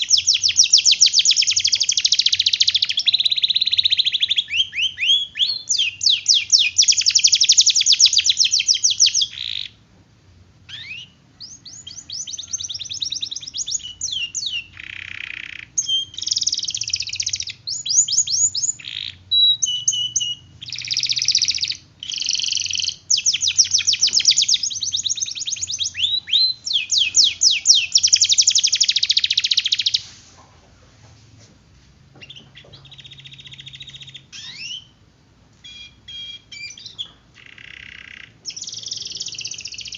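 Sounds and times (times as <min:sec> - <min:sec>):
canary singing trills: 0:00.0 - 0:09.8, 0:10.6 - 0:30.5, 0:32.2 - 0:39.9.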